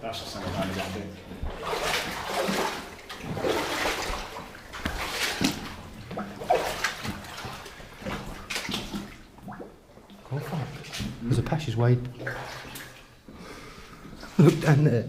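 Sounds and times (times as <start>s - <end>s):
feet wading through water: 0.1s - 14.7s.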